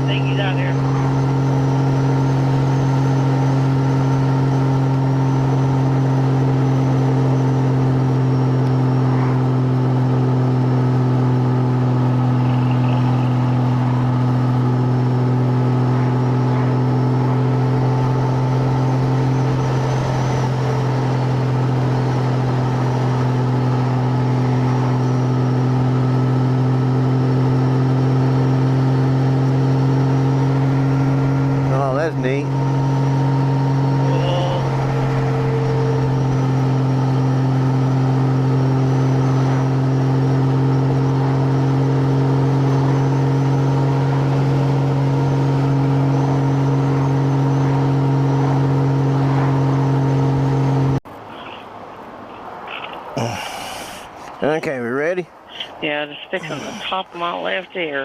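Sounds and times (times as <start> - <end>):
motorcycle engine cruising: 0.0 - 55.6
road and wind noise: 0.0 - 58.0.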